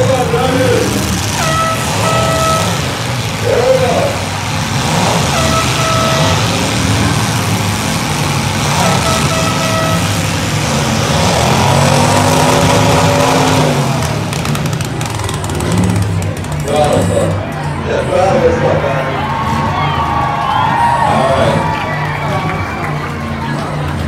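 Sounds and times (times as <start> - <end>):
car engines rumbling: 0.0 - 24.0.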